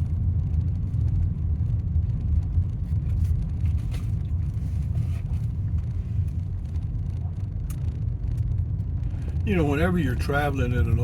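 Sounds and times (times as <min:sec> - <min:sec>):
vehicle rumble from inside cabin: 0:00.0 - 0:11.0.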